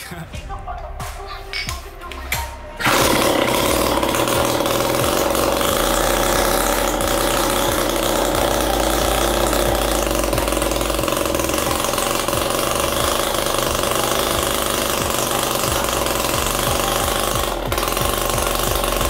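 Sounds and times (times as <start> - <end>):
two-stroke engine running: 2.8 - 19.0.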